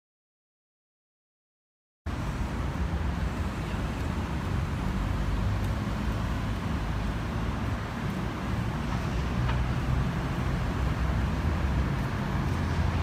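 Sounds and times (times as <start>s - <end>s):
city traffic rumble: 2.1s - 13.0s
wind: 2.1s - 13.0s.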